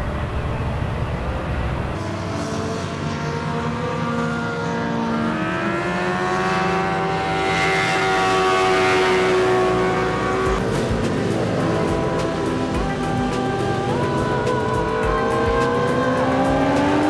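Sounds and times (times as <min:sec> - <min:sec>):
racing engine passing by: 0:00.0 - 0:17.0.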